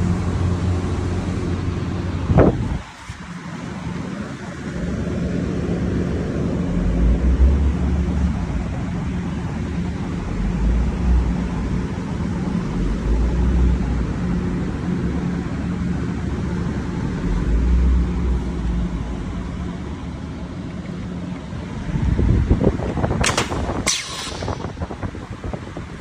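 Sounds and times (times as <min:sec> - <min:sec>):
welding machine humming and rumbling: 0:00.0 - 0:26.0.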